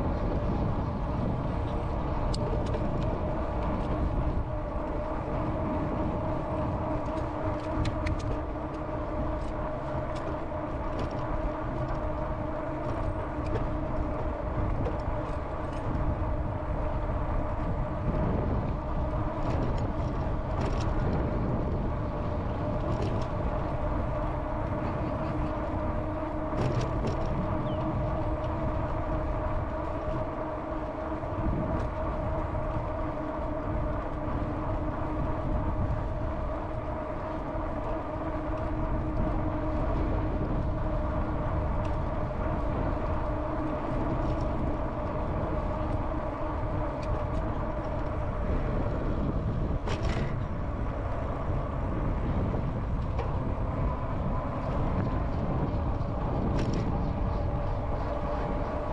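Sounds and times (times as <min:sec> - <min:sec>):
e-bike motor whine: 0:00.0 - 0:58.9
wind rumble on microphone: 0:00.0 - 0:58.9.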